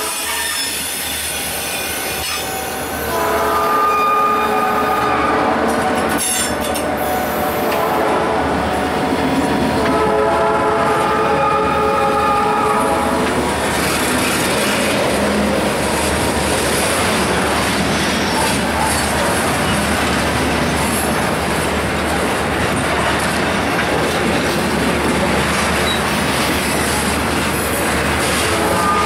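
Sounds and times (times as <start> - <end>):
freight train wheels on rails: 0.0 - 29.0.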